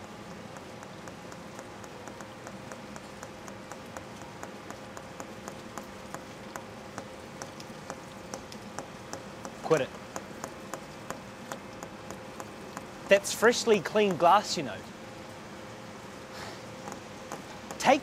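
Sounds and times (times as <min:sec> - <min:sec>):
steady hiss and faint hum: 0:00.0 - 0:18.0.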